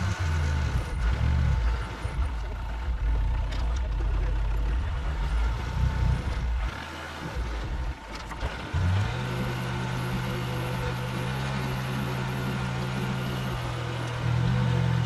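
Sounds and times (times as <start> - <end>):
road noise: 0.0 - 15.0
truck engine low drone: 0.0 - 15.0.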